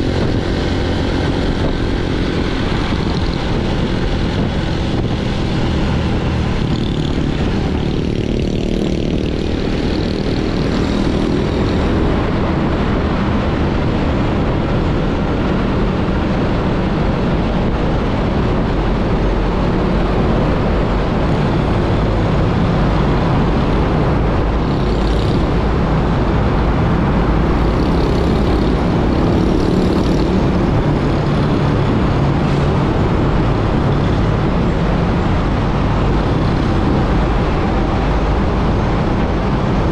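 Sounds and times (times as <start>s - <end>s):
motorbike engine running: 0.0s - 14.6s, 18.7s - 39.9s
wind and road noise: 0.0s - 39.9s.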